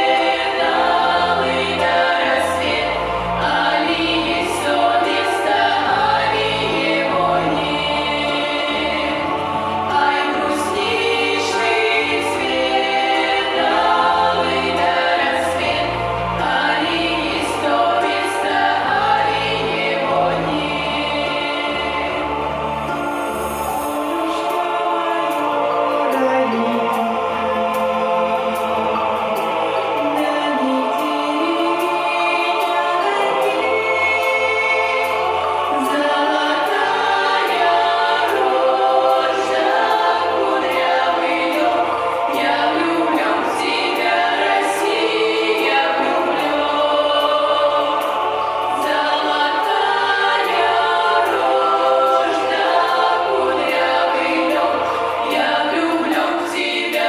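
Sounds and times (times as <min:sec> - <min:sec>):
children singing in chorus: 0:00.0 - 0:57.0
instrumental accompaniment: 0:00.0 - 0:57.0.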